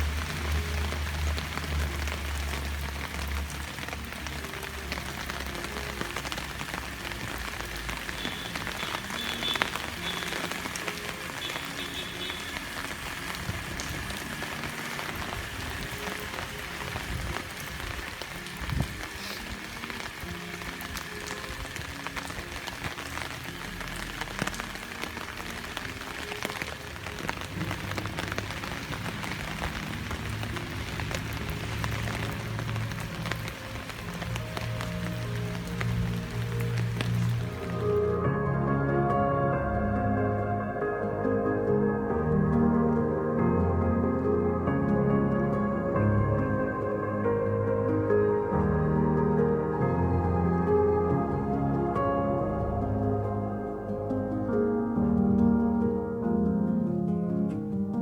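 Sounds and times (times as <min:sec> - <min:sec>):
background music: 0:00.0 - 0:58.0.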